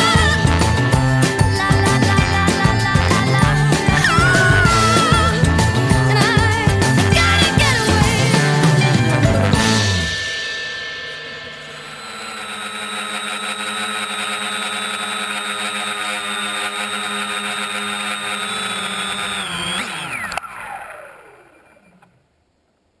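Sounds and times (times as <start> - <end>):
drone motors whining: 0.0 - 10.2, 11.5 - 22.2.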